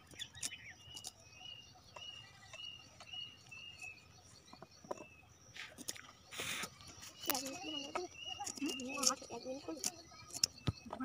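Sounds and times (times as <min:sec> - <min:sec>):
bird chirping: 0:00.0 - 0:11.0
faint insect hum: 0:00.0 - 0:11.0.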